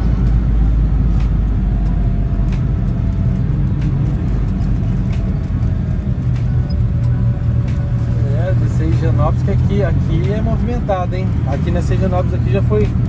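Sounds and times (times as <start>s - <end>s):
engine and road rumble in cabin: 0.0s - 13.0s.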